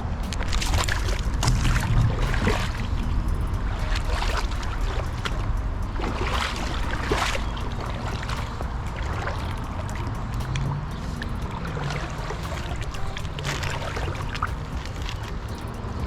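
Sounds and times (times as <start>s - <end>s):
creek water splashing: 0.0s - 16.0s
steady low rumble: 0.0s - 16.0s.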